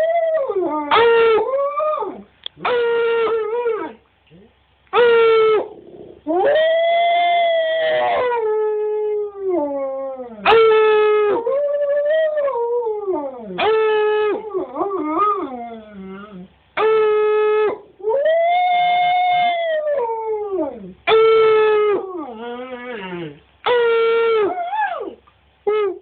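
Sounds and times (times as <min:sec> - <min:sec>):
dog howling: 0:05.0 - 0:26.0.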